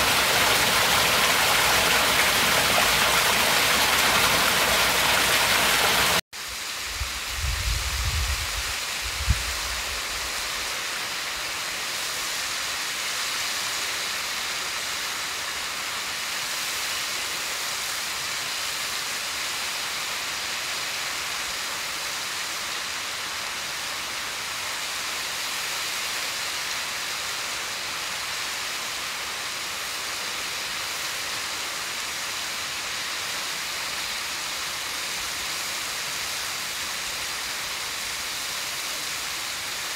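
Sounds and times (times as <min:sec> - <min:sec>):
close rush of water: 0:00.0 - 0:39.9
distant waterfall hiss: 0:00.0 - 0:39.9.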